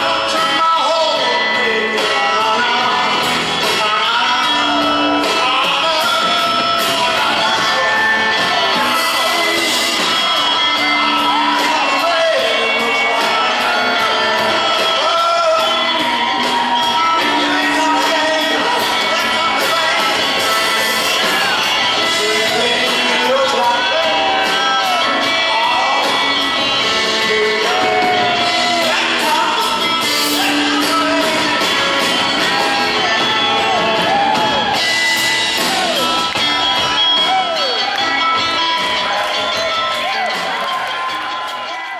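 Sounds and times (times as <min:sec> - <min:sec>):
live rock band playing: 0:00.0 - 0:41.9
person singing: 0:00.0 - 0:41.9
audience shouts and whoops: 0:03.0 - 0:41.9.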